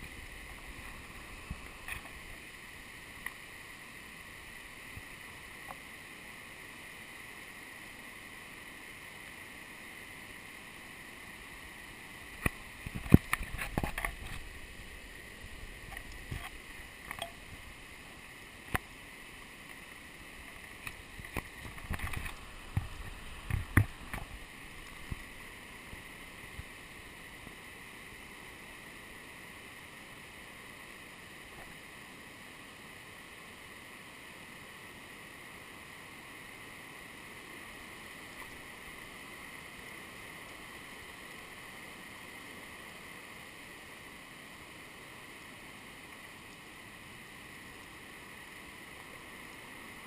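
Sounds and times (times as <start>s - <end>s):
running water rushing: 0.0s - 50.0s.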